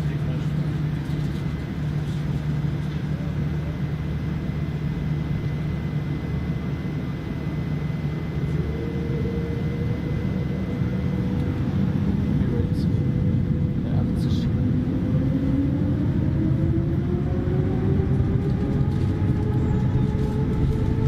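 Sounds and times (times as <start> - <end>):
airliner cabin engine and air noise: 0.0 - 21.0.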